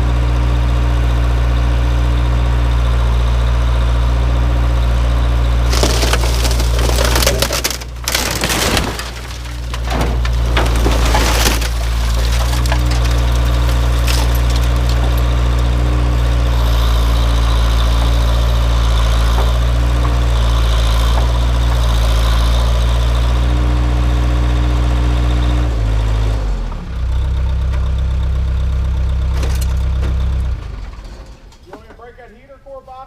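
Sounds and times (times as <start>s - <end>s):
backhoe engine running: 0.0s - 33.0s.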